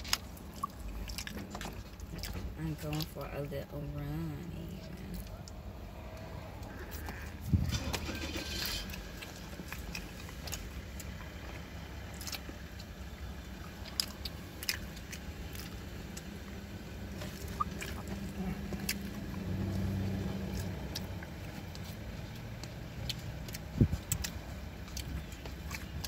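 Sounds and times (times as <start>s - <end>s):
chewing and biting food: 0.0s - 3.2s, 5.2s - 26.0s
low hum inside car: 0.0s - 26.0s.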